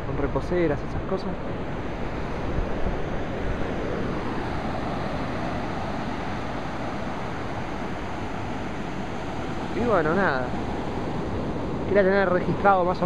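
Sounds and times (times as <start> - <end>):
wind on microphone: 0.0 - 13.0
surf breaking on beach: 1.4 - 13.0.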